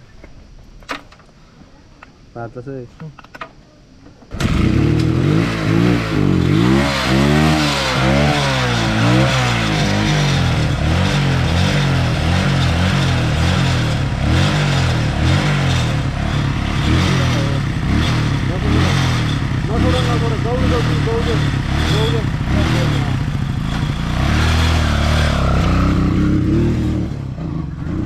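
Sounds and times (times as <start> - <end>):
dirt bike engine revving: 4.3 - 28.0.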